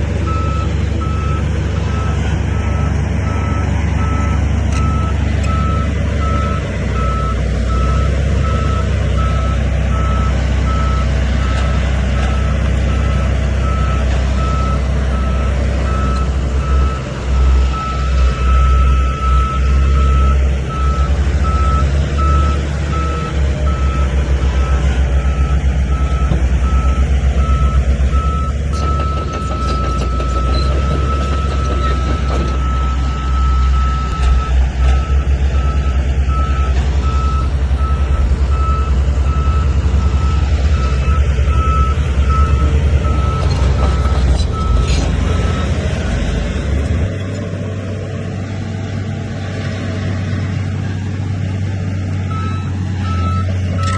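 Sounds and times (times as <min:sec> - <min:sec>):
diesel machine rumbling: 0:00.0 - 0:53.9
reversing alarm beeping: 0:00.2 - 0:45.9, 0:52.3 - 0:53.9.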